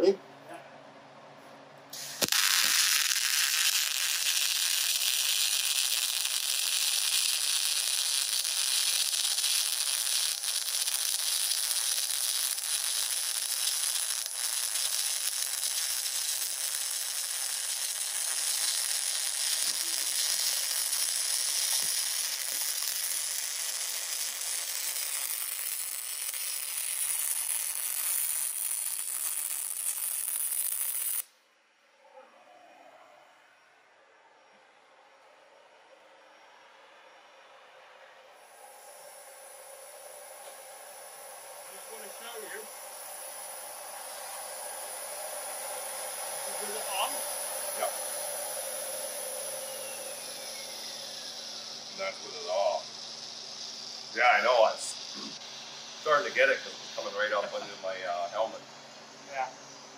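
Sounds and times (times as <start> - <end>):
welding arc crackling: 2.0 - 31.3, 38.4 - 58.2.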